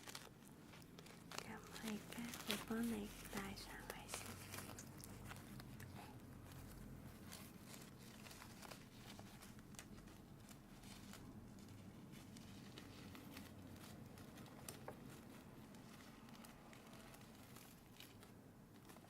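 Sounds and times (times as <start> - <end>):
eye mask rustling and clicking: 0.0 - 19.0
low room hum: 0.0 - 19.0.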